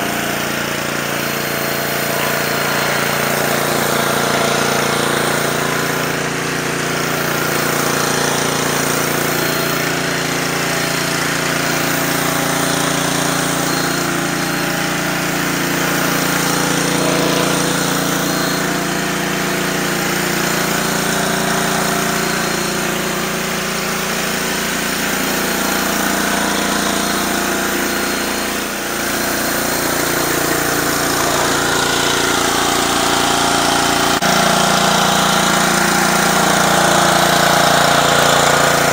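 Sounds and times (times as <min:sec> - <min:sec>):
pressure washer engine running: 0:00.0 - 0:38.9
water spraying onto concrete: 0:00.0 - 0:38.9.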